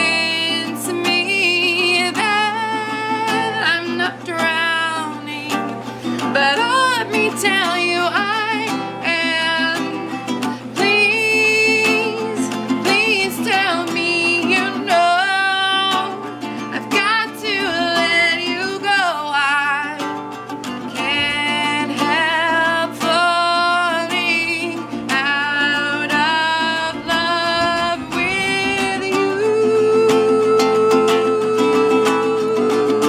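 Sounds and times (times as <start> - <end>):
ukulele strumming: 0.0 - 33.0
woman singing: 0.0 - 33.0.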